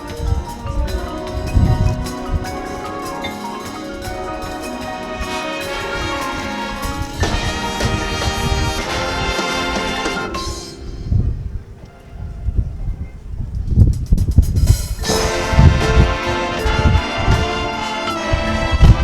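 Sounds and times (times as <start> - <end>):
marching band playing: 0.0 - 12.0, 14.7 - 19.0.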